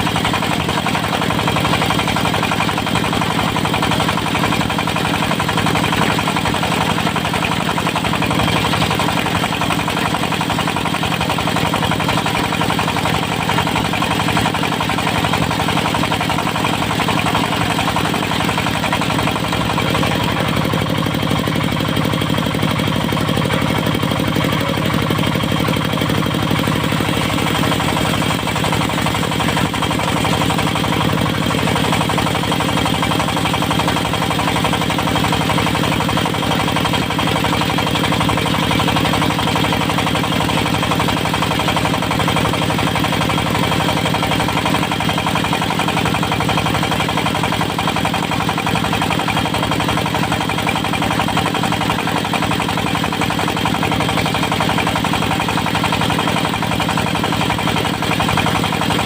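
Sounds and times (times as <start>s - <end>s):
sawmill diesel engine running: 0.0s - 59.0s.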